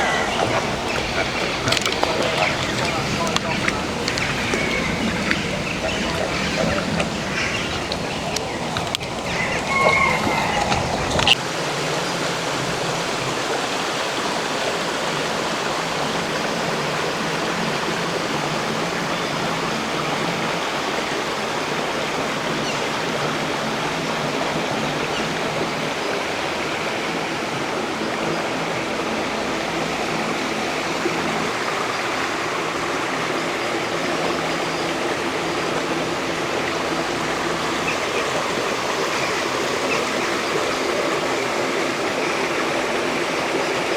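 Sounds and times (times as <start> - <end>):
running water rushing: 0.0 - 43.9.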